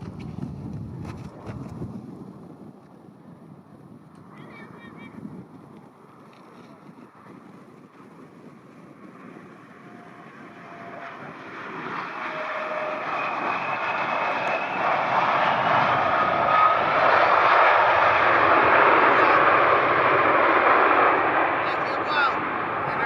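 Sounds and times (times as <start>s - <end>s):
airliner engines roaring: 2.4s - 23.0s.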